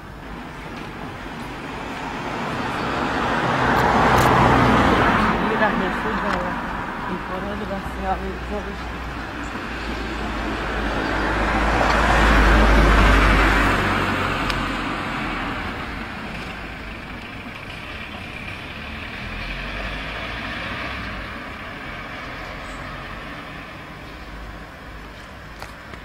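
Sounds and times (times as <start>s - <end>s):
steady traffic noise: 0.0s - 26.0s
vehicle passing by: 1.1s - 24.7s.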